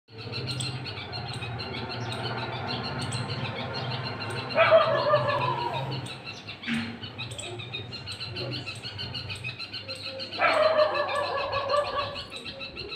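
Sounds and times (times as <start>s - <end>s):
small birds chirping: 0.1s - 12.9s.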